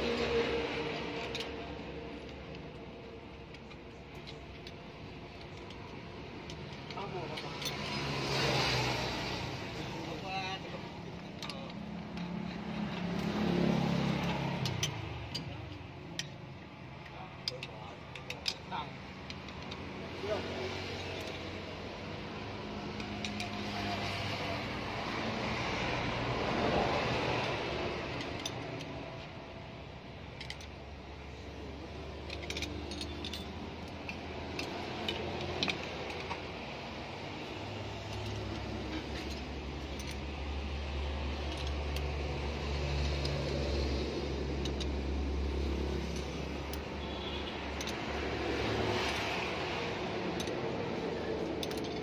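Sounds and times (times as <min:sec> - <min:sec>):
metallic spanner clicks: 0:00.0 - 0:20.1, 0:20.7 - 0:52.0.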